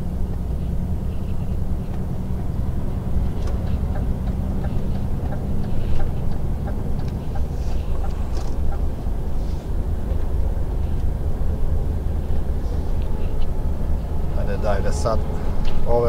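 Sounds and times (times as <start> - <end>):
road noise: 0.0 - 16.0
truck diesel engine droning: 0.0 - 16.0.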